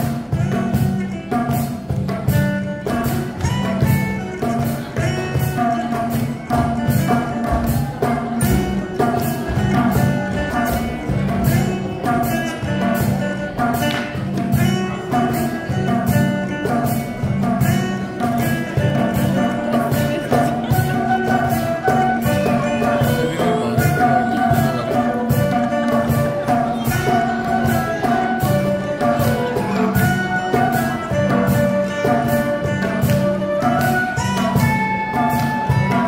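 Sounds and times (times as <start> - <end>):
music with percussive beat: 0.0 - 36.0.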